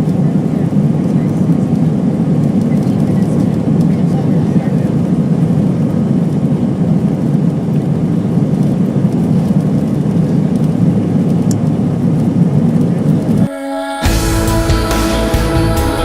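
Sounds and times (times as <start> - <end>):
jet engine cabin rumble: 0.0 - 15.8.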